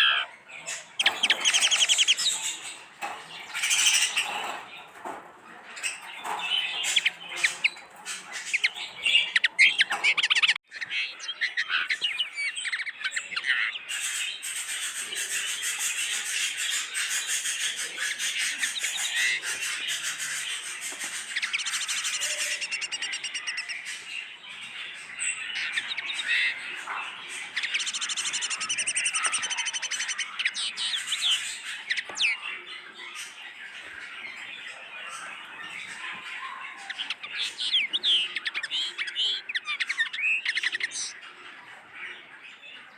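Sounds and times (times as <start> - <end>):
caged birds chirping and chattering: 0.0 - 42.9.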